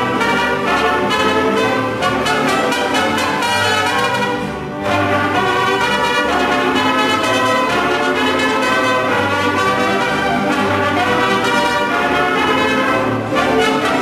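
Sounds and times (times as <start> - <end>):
bowed violins: 0.0 - 14.0
guitars: 0.0 - 14.0
trumpets: 0.0 - 14.0.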